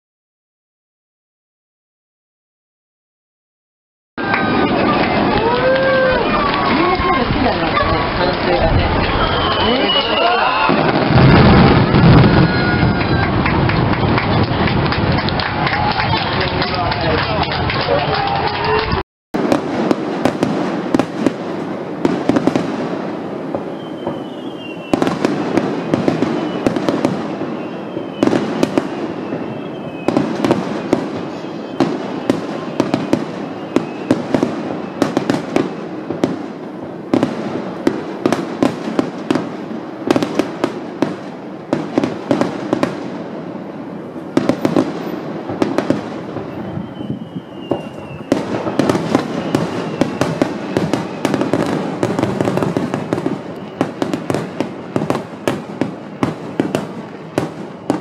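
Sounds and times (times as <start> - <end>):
falling fireworks whistles: 4.2 - 17.8, 18.5 - 58.0
fireworks bursting with sharp bangs: 4.2 - 58.0.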